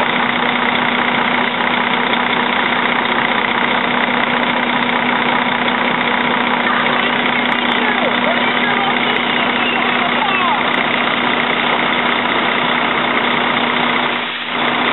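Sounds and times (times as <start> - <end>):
truck engine running: 0.0 - 14.9.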